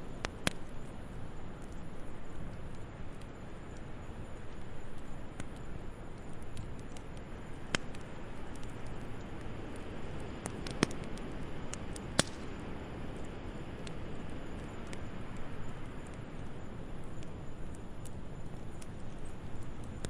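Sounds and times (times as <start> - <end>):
sharp fire pops: 0.0 - 20.0
wood fire crackling: 0.0 - 20.0.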